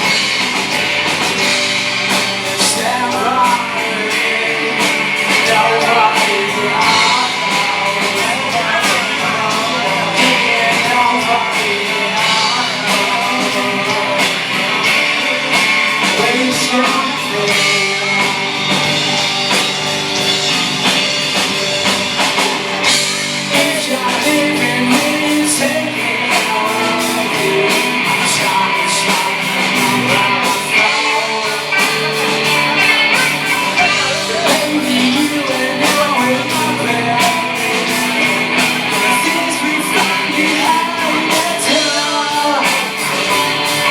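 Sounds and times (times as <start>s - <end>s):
person singing: 0.0s - 20.3s, 22.4s - 43.9s
drum kit steady beat: 0.0s - 43.9s
electric guitars: 0.0s - 43.9s.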